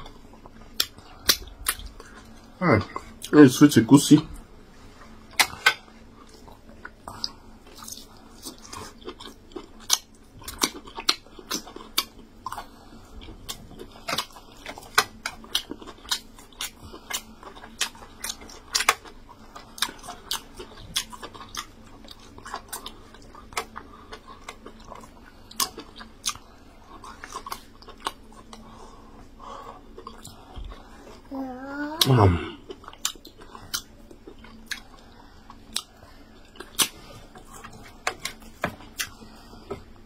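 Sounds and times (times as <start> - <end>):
person chewing with mouth smacks: 0.0 - 3.3, 5.3 - 30.8, 32.0 - 40.0.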